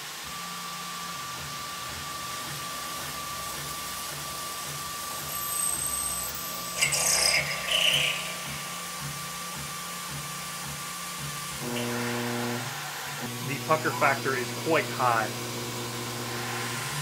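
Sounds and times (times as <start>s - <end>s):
cutter milling metal: 0.0s - 17.0s
mill spindle whine: 0.0s - 17.0s.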